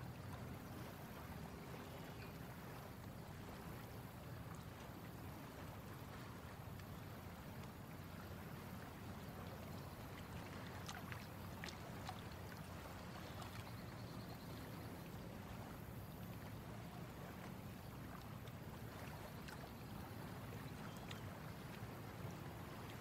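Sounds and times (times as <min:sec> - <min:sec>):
water lapping against boat hull: 0:00.0 - 0:23.0
light high ticks or drips: 0:01.7 - 0:15.5, 0:16.1 - 0:23.0.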